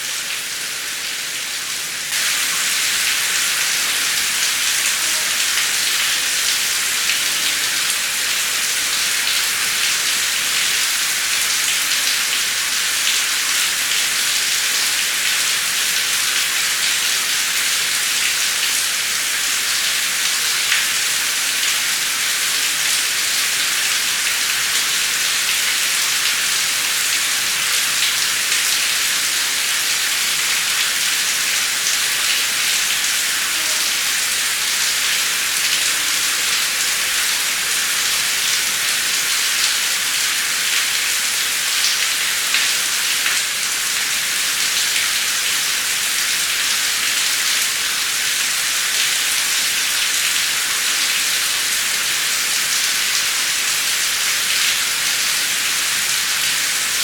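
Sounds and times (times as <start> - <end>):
heavy rain falling: 0.1 - 57.0.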